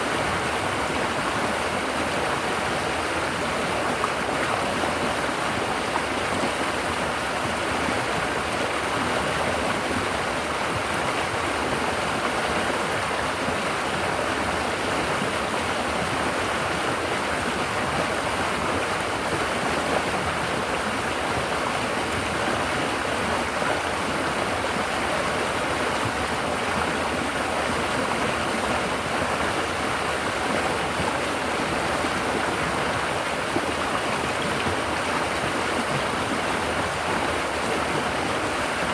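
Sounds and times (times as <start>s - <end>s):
river water babbling over rocks: 0.0s - 38.9s.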